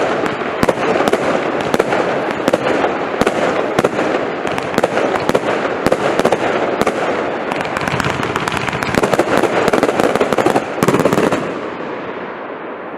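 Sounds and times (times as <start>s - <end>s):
firework cake crackling: 0.0s - 12.9s.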